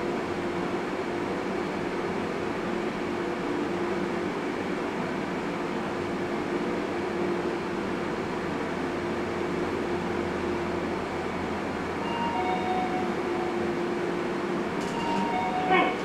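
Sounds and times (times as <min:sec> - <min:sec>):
elevator running hum: 0:00.0 - 0:16.0.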